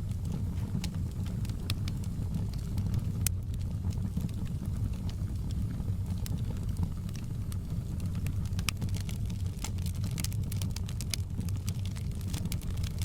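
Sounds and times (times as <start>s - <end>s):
fire crackling and popping: 0.0s - 13.0s
fire rumbling in fireplace: 0.0s - 13.0s.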